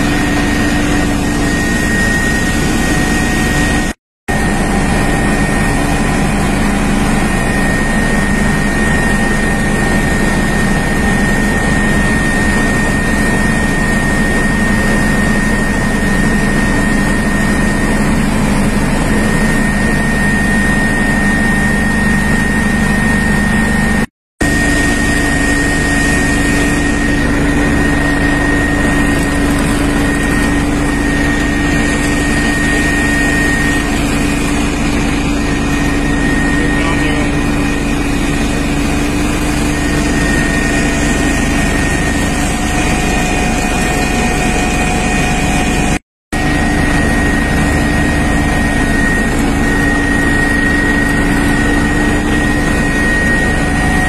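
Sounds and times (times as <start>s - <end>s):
aircraft engines droning in cabin: 0.0s - 54.0s.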